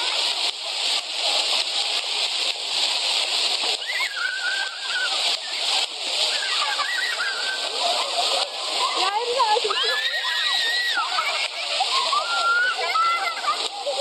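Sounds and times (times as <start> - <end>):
fountain water splashing on paving: 0.0 - 14.0.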